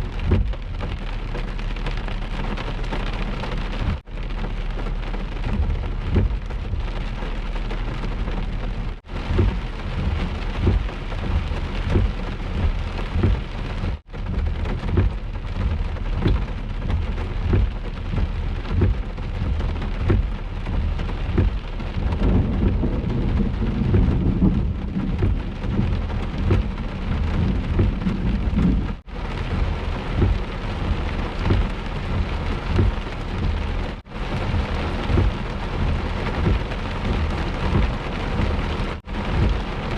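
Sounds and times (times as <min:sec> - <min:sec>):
heavy rain pounding: 0:00.0 - 0:39.9
low thumps: 0:00.0 - 0:39.9
thunder rumbling: 0:00.0 - 0:39.9.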